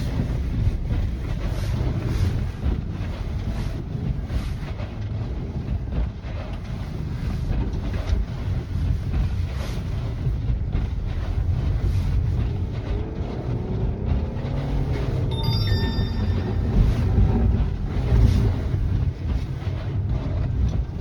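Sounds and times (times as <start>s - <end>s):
car engine and tyres rumbling: 0.0s - 21.0s
wind buffeting microphone: 0.0s - 21.0s.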